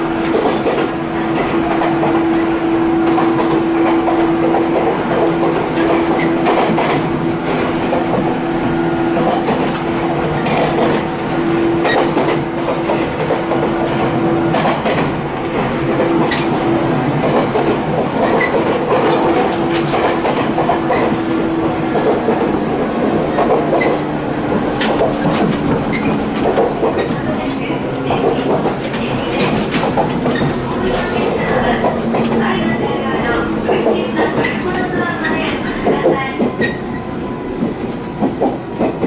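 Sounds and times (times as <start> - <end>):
train motor and gear hum: 0.0 - 39.0
wheels clicking over rail joints: 3.0 - 8.4, 9.1 - 36.9.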